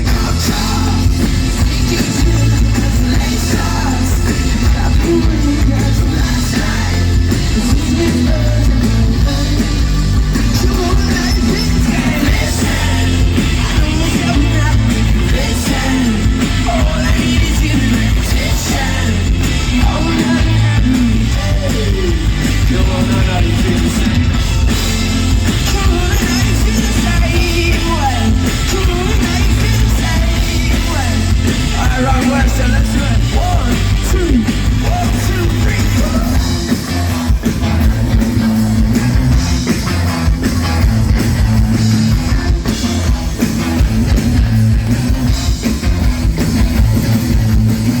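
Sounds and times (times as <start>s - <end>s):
bass guitar: 0.0s - 48.0s
drums: 0.0s - 48.0s
electric guitar: 0.0s - 48.0s.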